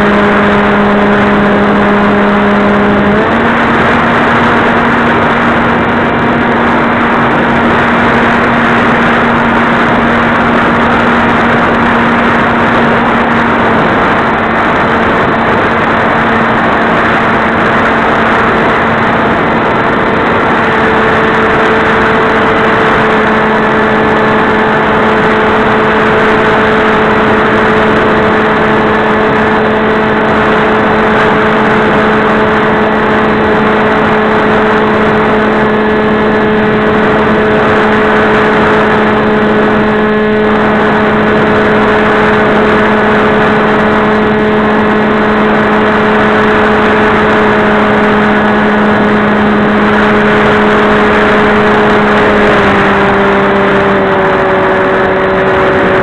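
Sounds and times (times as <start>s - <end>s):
heavy wind rush: 0.0s - 56.0s
model airplane motor and propeller: 0.0s - 56.0s.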